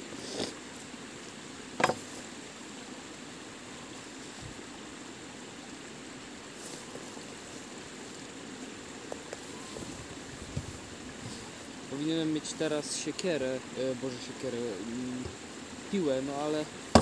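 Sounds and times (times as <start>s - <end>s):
hissing outdoor background noise: 0.0s - 17.0s.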